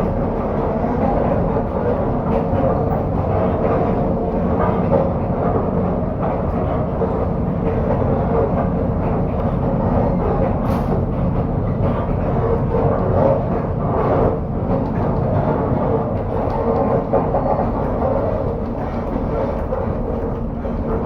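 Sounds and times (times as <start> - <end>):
constant hum: 0.0 - 21.0
train carriage rumble and rattle: 0.0 - 21.0.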